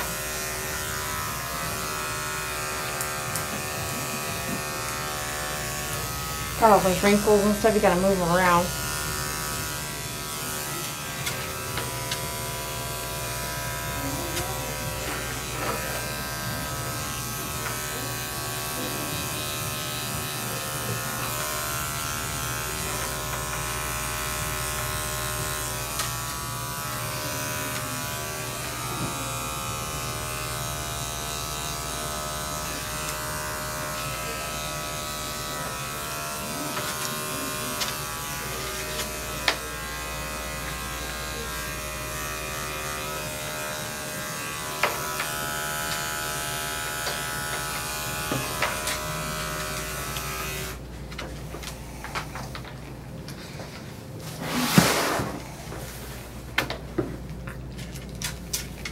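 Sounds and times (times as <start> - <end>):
electric clippers buzzing: 0.0 - 55.8.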